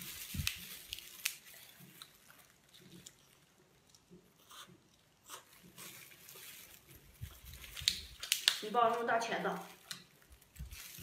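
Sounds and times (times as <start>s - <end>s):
sharp clicks and crackles: 0.0s - 4.3s, 4.9s - 11.0s.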